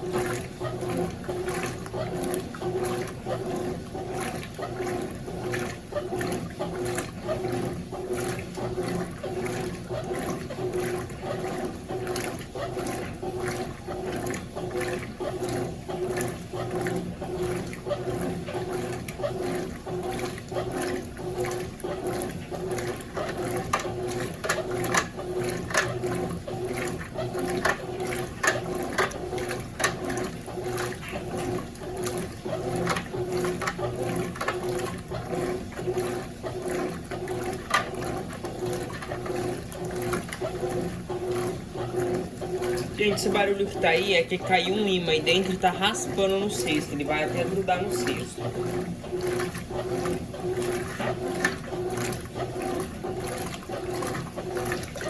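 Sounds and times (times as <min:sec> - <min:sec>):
washing machine water sloshing: 0:00.0 - 0:55.0.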